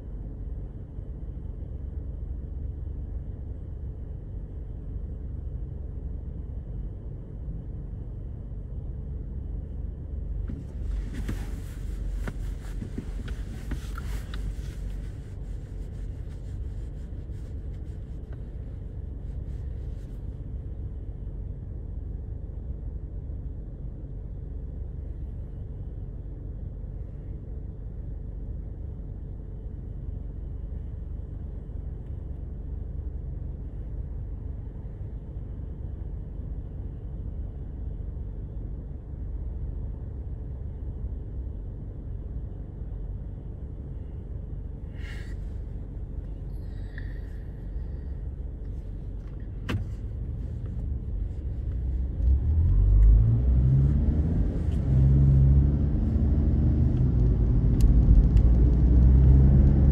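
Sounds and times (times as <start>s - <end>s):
car tyres and engine rumble: 0.0s - 59.9s
faint steady hum: 0.0s - 59.9s.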